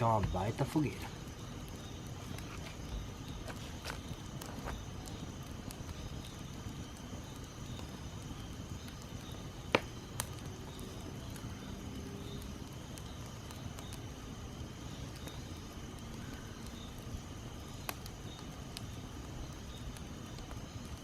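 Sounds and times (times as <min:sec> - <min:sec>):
campfire burning: 0:00.0 - 0:21.0
wood crackling pops: 0:00.0 - 0:21.0.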